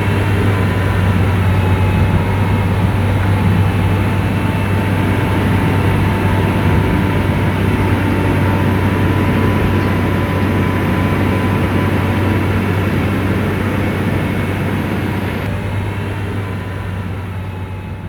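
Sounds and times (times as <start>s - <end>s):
thin steady whine: 0.0s - 17.6s
diesel engine running: 0.0s - 18.0s.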